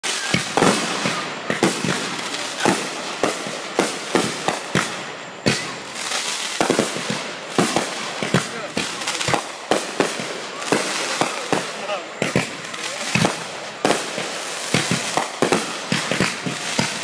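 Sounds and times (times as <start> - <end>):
fireworks banging: 0.0 - 17.0
fireworks crackling hiss: 0.0 - 17.0.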